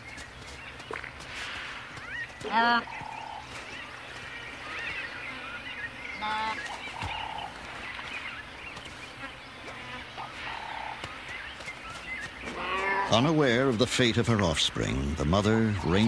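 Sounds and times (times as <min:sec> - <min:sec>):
wild birds chirping: 0:00.0 - 0:16.0.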